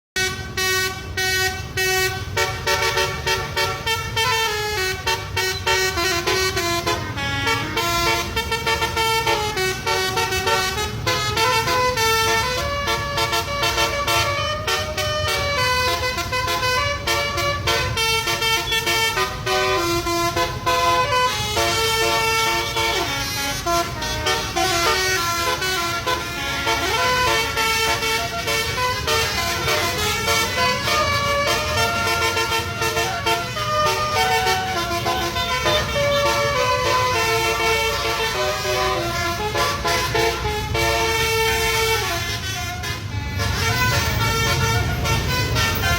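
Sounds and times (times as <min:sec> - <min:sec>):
multi-tone air horn tune: 0:00.2 - 0:45.9.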